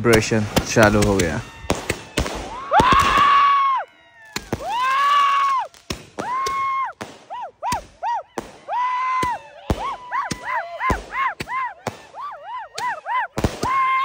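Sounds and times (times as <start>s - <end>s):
firecracker cracks: 0.0s - 3.5s, 4.3s - 13.9s.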